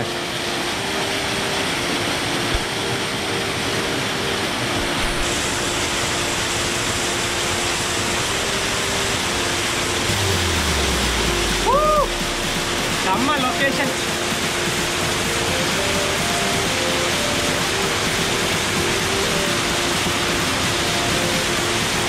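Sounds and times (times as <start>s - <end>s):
waterfall pouring over rocks: 0.0s - 22.0s.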